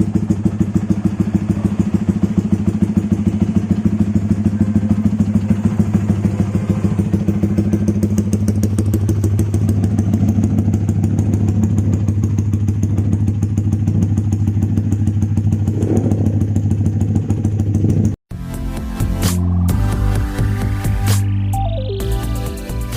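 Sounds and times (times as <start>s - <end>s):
motorcycle idling: 0.0s - 22.9s.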